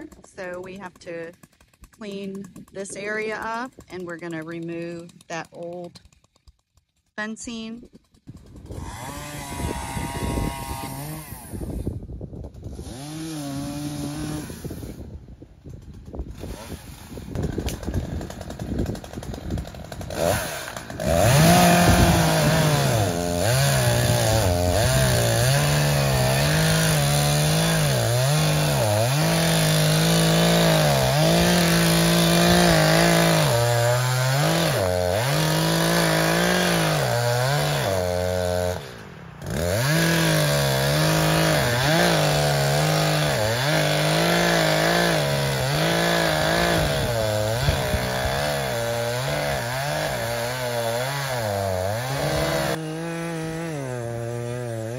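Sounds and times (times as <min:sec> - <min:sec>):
chainsaw cutting: 0:00.0 - 0:54.9.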